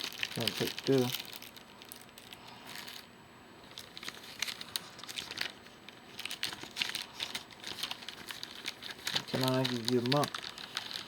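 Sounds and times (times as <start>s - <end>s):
toy packaging crinkling: 0.0s - 11.0s.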